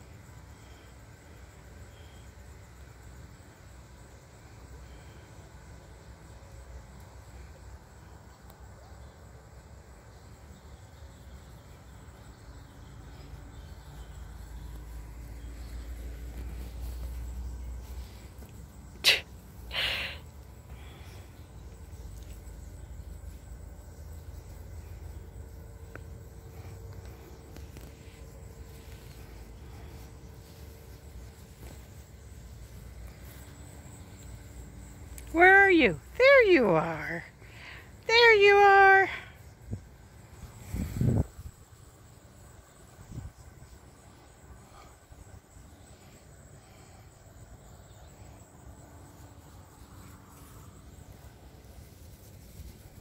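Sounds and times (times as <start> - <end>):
faint hum: 0.0 - 53.0
insect drone: 0.0 - 53.0.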